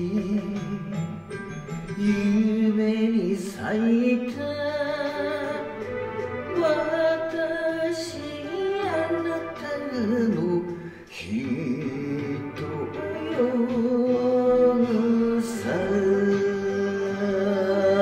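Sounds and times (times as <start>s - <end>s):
person singing ballad: 0.0s - 1.3s, 1.9s - 18.0s
karaoke backing track: 0.0s - 18.0s.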